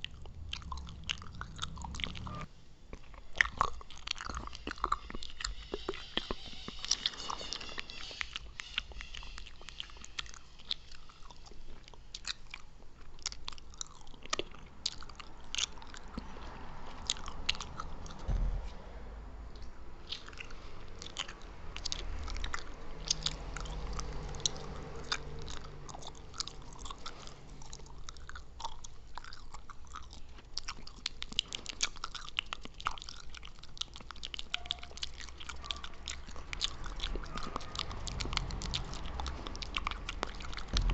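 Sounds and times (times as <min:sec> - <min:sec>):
person chewing gum: 0:00.0 - 0:18.4, 0:19.5 - 0:40.9.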